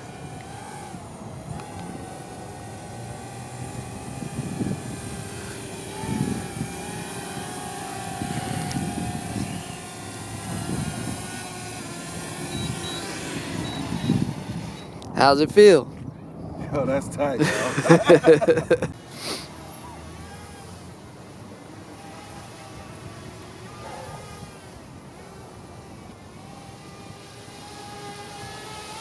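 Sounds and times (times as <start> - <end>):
drone propellers whining: 0.0 - 15.6, 16.3 - 29.0.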